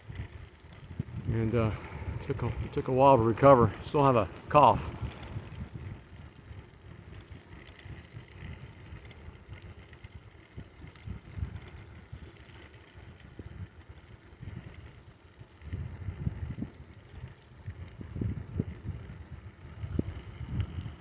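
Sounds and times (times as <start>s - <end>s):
bicycle tyres rolling: 0.0s - 21.0s
wind buffeting microphone: 0.0s - 21.0s.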